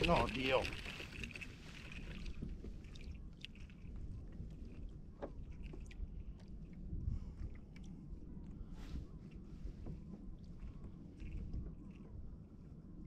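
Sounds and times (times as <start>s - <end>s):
faint wind: 0.0s - 13.0s
water rumble: 0.0s - 13.0s.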